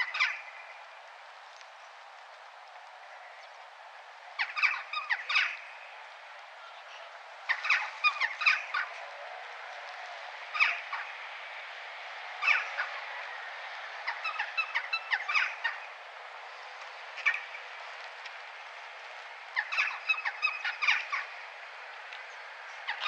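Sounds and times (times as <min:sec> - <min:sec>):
town background noise: 0:00.0 - 0:23.0.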